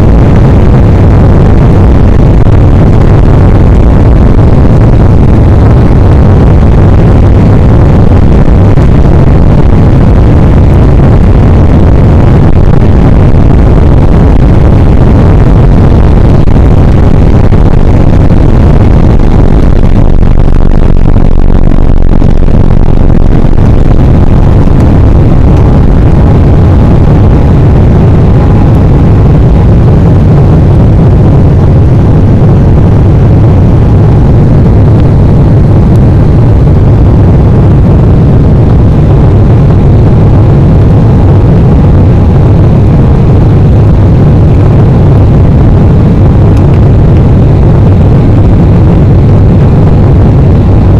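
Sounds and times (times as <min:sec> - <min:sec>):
jet engines at takeoff thrust: 0:00.0 - 0:50.9.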